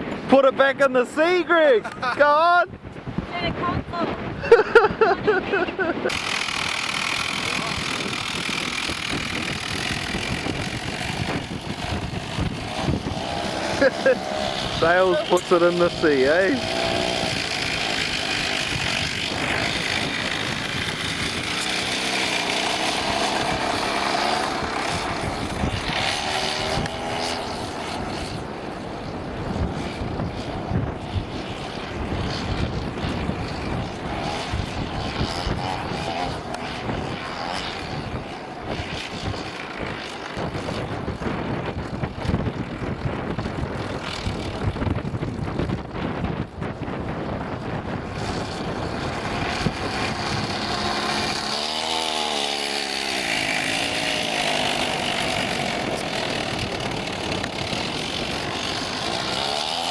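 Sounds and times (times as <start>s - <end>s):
chainsaw engine buzzing and revving: 4.4s - 59.9s.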